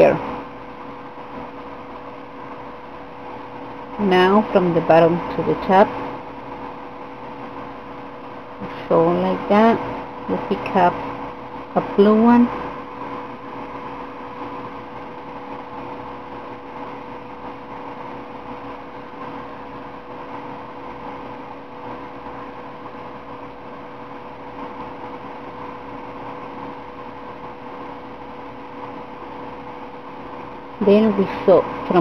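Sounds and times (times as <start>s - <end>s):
background hum and hiss: 0.0s - 32.0s
constant mid-pitched tone: 0.0s - 32.0s.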